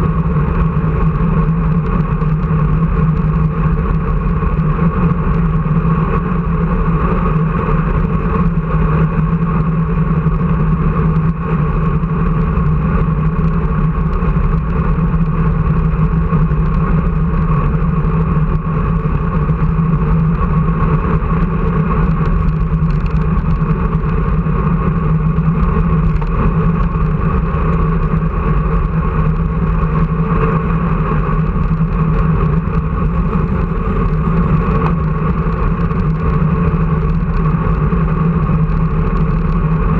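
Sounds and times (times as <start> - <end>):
loud motor drone: 0.0 - 39.9.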